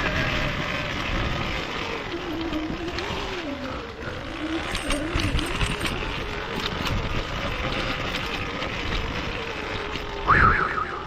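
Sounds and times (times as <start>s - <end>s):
bike rattling over rocks: 0.0s - 11.0s
motorcycle engine running: 0.0s - 11.0s.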